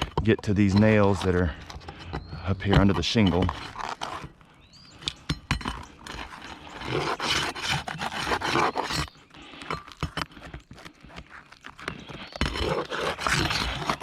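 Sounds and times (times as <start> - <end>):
roof shingles scraping and crackling: 0.0 - 14.0.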